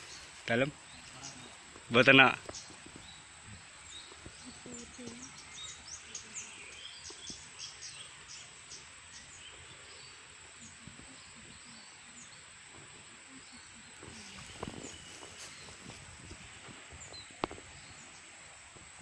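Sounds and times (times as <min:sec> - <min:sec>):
small birds chirping: 0:00.0 - 0:19.0
steady outdoor hiss: 0:00.0 - 0:19.0.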